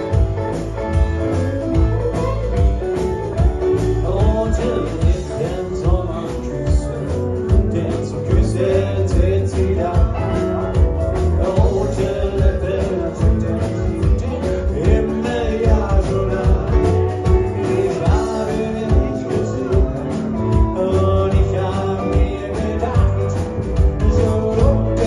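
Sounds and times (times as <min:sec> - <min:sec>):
live country rock band: 0:00.0 - 0:25.0.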